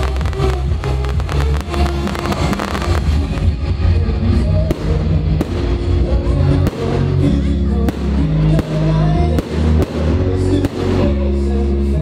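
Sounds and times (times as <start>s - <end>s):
firework bangs: 0.0s - 3.6s, 4.6s - 7.2s, 7.9s - 11.2s
loud music: 0.0s - 12.0s.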